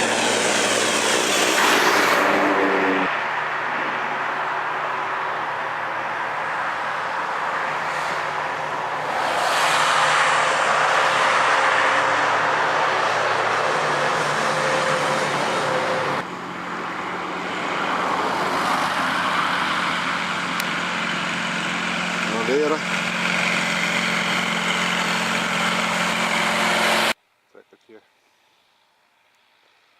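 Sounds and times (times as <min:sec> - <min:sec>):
tractor engine running hard: 0:00.0 - 0:27.2.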